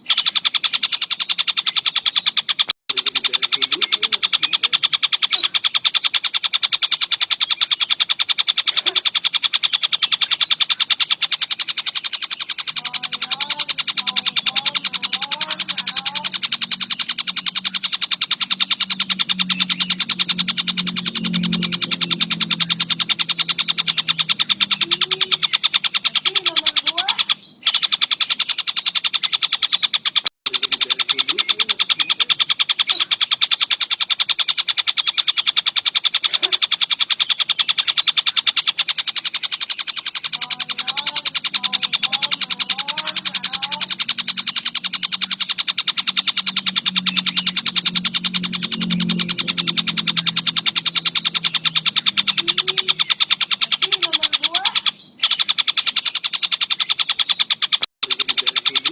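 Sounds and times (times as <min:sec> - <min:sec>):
bird rapid high trill: 0:00.0 - 0:58.9.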